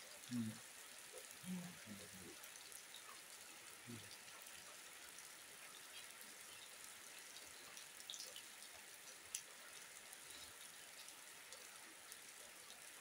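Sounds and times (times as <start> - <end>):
light rain falling: 0.0 - 13.0
water drips: 0.0 - 13.0.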